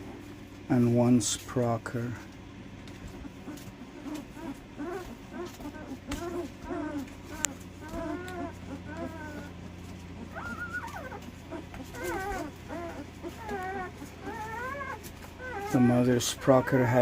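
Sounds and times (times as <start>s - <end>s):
puppies whimpering and squealing: 0.0s - 17.0s.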